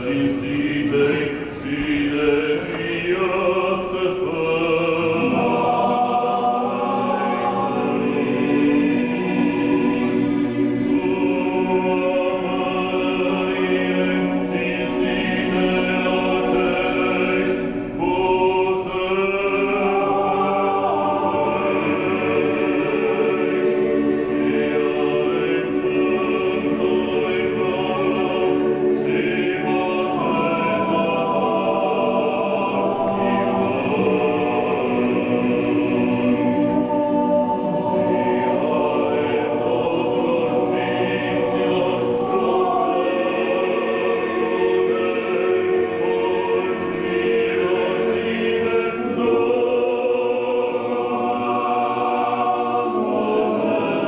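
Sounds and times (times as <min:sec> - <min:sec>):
choir singing unaccompanied: 0:00.0 - 0:54.0.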